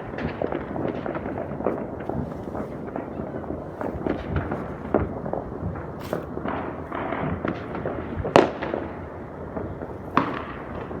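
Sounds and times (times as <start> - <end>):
distant fireworks crackling: 0.0 - 11.0.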